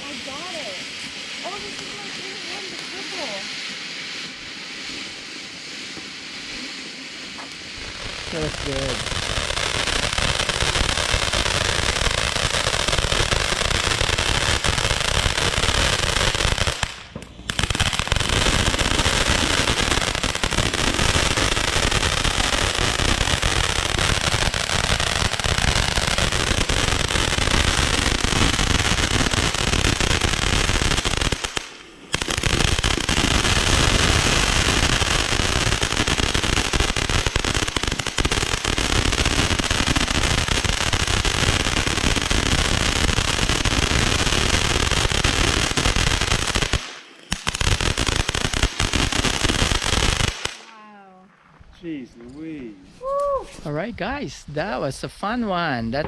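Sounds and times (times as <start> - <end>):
fireworks bangs and crackling: 0.0 - 50.8.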